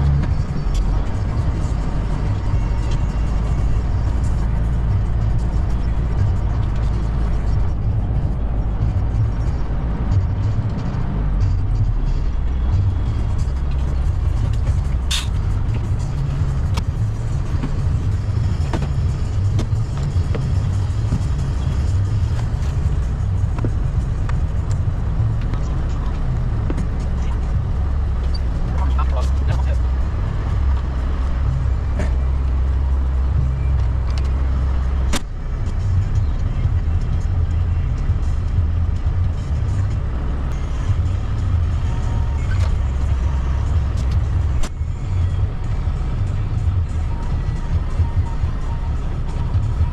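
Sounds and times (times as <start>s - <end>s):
truck engine and road drone: 0.0s - 49.9s.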